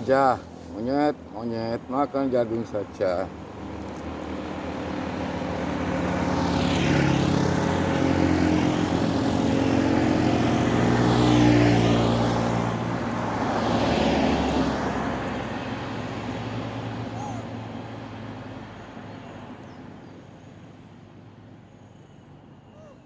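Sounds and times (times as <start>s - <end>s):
vehicles driving past: 0.0s - 23.0s.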